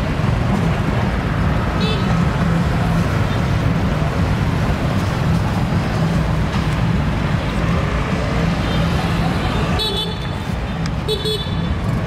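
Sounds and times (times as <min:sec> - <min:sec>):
motorbikes in street traffic: 0:00.0 - 0:12.0.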